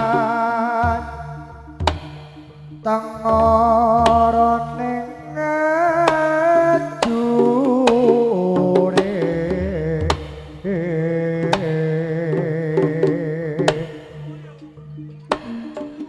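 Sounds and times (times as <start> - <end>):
gamelan music: 0.0 - 16.0
reedy wavering melody: 0.0 - 16.0
sharp drum strokes: 0.0 - 16.0.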